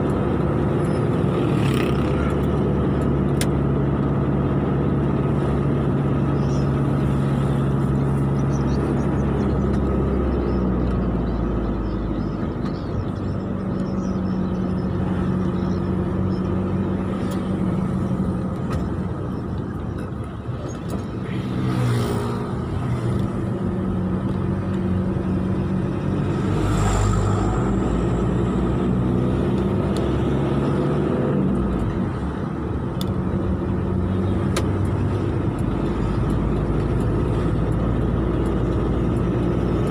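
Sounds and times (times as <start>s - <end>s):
road and tyre noise: 0.0s - 39.9s
vehicle engine hum: 0.0s - 39.9s.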